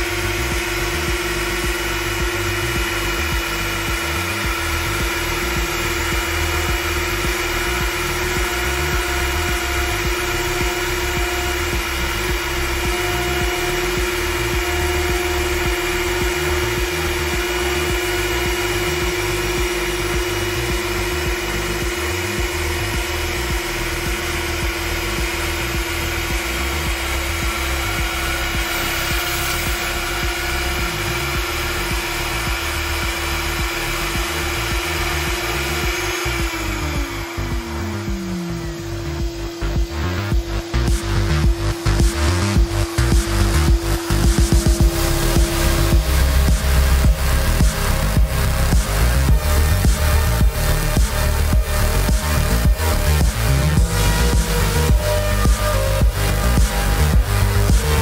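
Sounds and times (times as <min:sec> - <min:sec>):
router spindle whining: 0:00.0 - 0:58.0.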